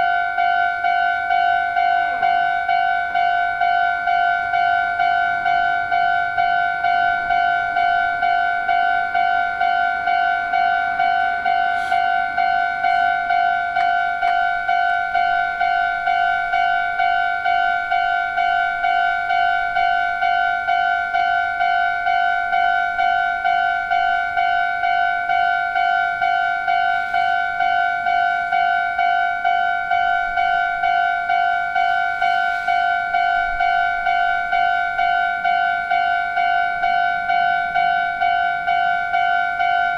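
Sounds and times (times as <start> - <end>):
level-crossing warning bell ringing: 0.0 - 39.9.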